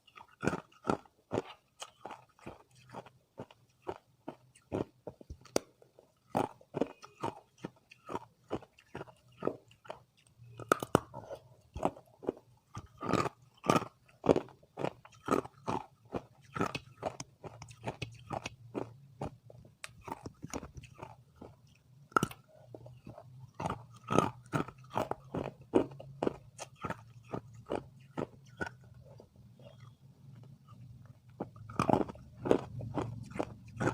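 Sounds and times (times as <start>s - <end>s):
person chewing ice crunching: 0.0s - 33.9s.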